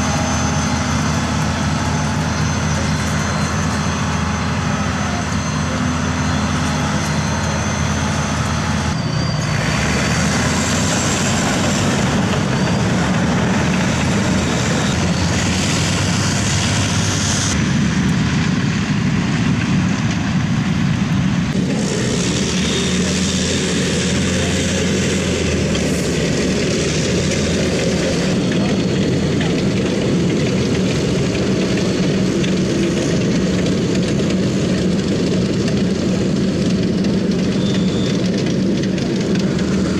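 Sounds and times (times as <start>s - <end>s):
off-road vehicle engine drone: 0.0s - 39.9s.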